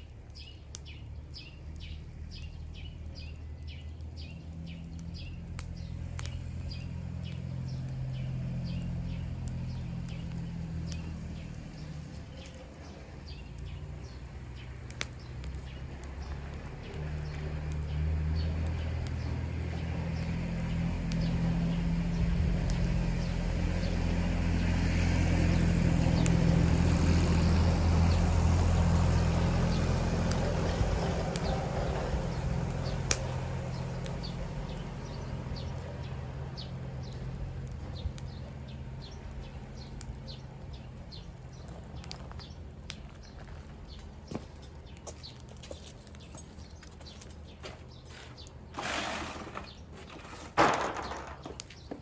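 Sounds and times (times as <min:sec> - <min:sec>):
passing engine rumble: 0:00.0 - 0:52.0
wood fire crackling and popping: 0:00.0 - 0:52.0.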